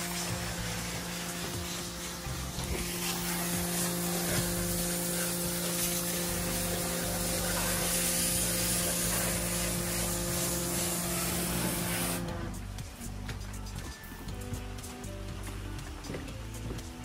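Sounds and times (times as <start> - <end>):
machine humming: 0.0 - 17.0
water spraying from hose nozzle: 0.0 - 17.0.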